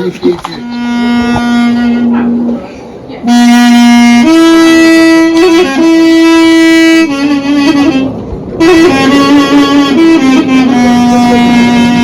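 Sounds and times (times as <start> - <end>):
melody of long held notes: 0.6 - 12.0.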